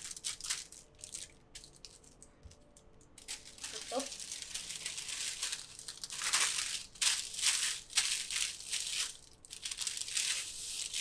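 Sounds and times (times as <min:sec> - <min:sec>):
baking paper crinkling: 0:00.0 - 0:02.2, 0:03.2 - 0:11.0.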